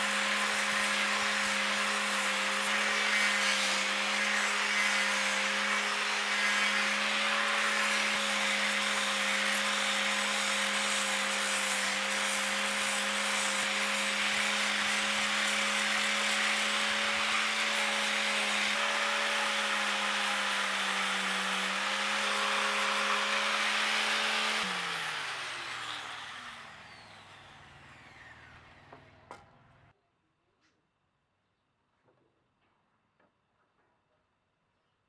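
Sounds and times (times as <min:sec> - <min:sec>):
power tool motor winding down: 0:00.0 - 0:29.2.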